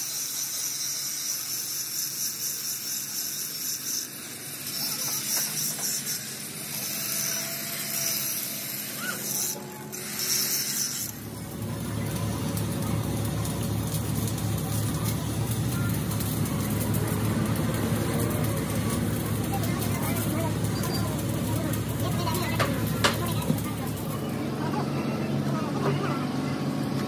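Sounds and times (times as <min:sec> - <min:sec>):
angle grinder grinding steel: 0:00.0 - 0:24.4
low machinery hum with rumbling: 0:04.2 - 0:27.0.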